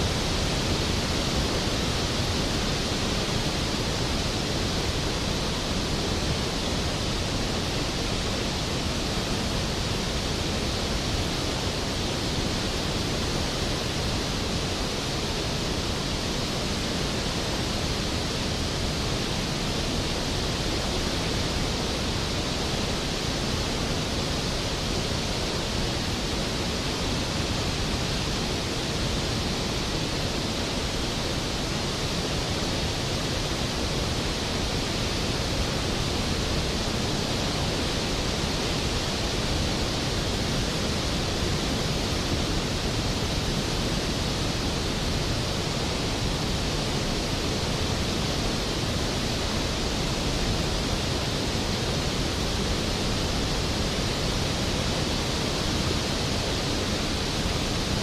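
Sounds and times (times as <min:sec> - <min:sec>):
waterfall thundering: 0:00.0 - 0:58.0.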